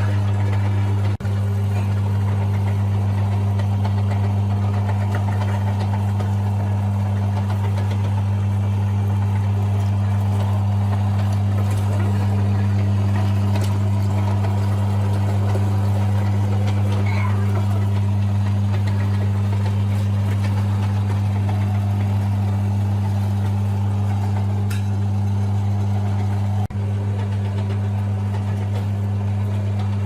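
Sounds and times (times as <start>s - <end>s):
meat grinder motor humming: 0.0s - 30.0s.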